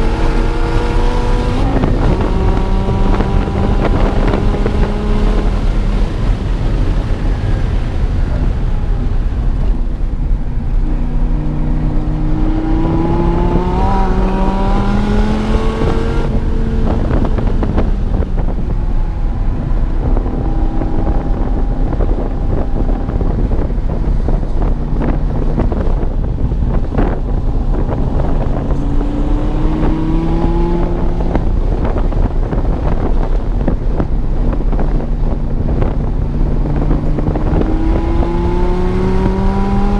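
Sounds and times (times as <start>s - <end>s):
sports car engine accelerating: 0.0s - 39.9s
wind buffeting microphone: 0.0s - 39.9s.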